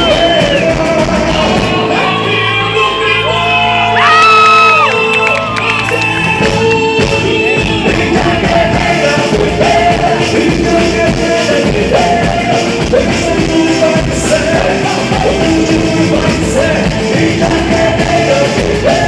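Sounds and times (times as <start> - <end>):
live folk music with drums: 0.0 - 2.1, 5.8 - 19.0
dense drum beat: 0.0 - 2.9, 6.0 - 19.0.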